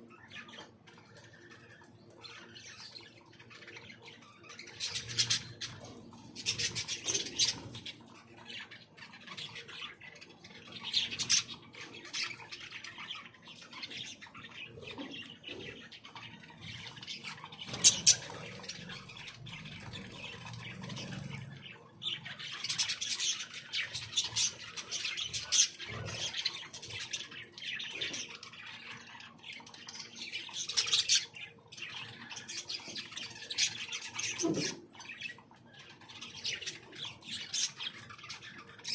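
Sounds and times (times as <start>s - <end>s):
birds chirping and squawking: 0.0s - 38.9s.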